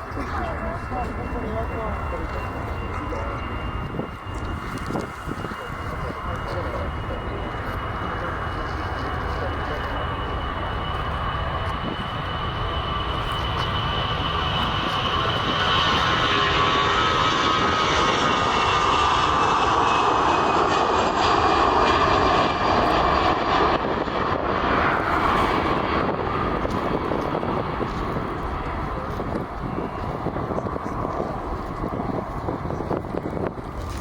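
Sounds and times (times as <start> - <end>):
airliner engines roaring past: 0.0 - 34.0.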